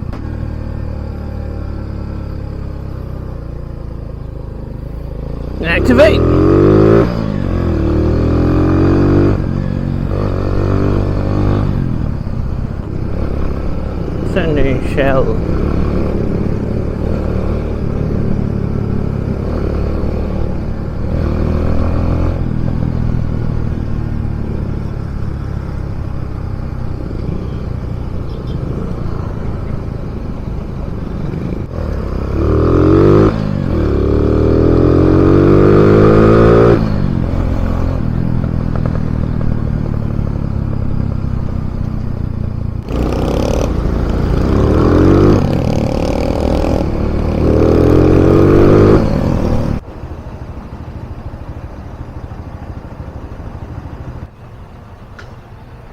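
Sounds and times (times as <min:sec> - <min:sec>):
motorcycle engine revving: 0:00.0 - 0:54.7.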